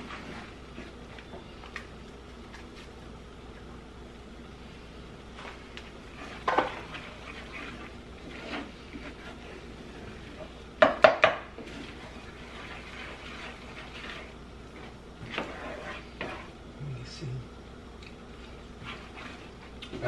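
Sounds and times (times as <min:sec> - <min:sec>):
wooden spoon stirring in skillet: 0:00.0 - 0:17.2, 0:17.8 - 0:20.0.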